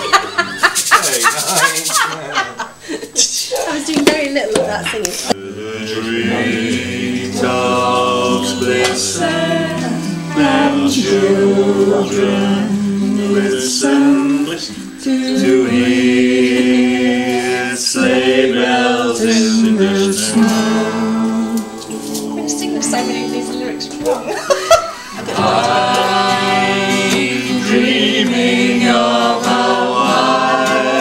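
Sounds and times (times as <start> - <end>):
people singing along: 5.2 - 31.0
acoustic guitar strummed: 5.4 - 31.0.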